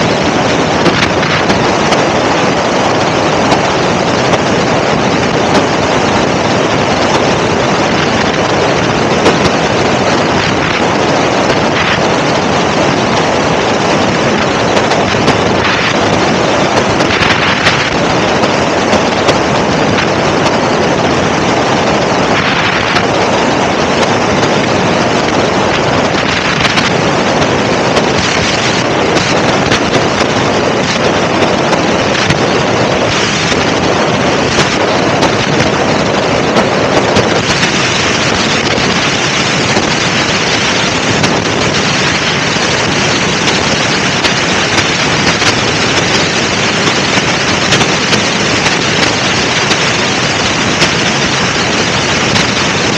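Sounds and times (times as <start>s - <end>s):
helicopter engine drone: 0.0s - 52.9s.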